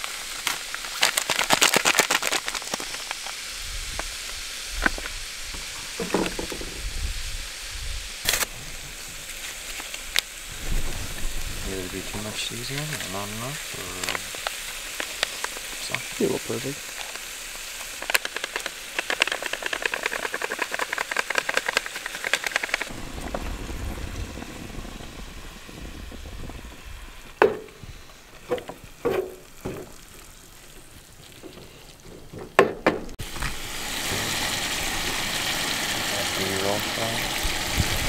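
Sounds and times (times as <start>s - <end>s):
food sizzling in a pan: 0.0s - 31.4s, 33.2s - 38.0s.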